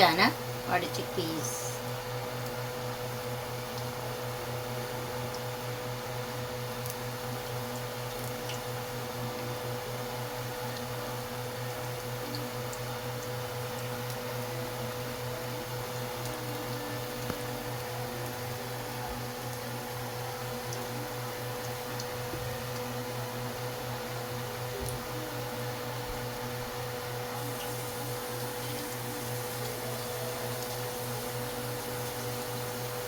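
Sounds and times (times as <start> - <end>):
kitchen appliance humming: 0.0 - 33.0.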